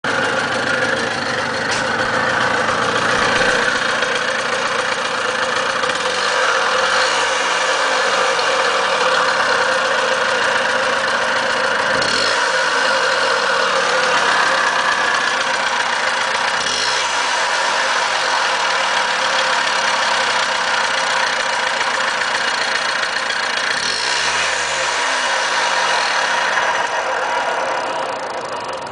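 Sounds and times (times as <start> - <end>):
engine knocking: 0.0 - 28.9
small engine idling: 0.0 - 28.9.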